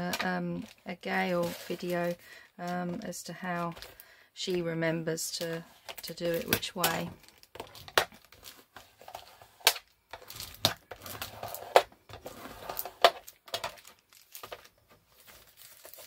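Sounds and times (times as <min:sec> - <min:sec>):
paper crinkling: 0:00.6 - 0:04.0, 0:05.4 - 0:16.0.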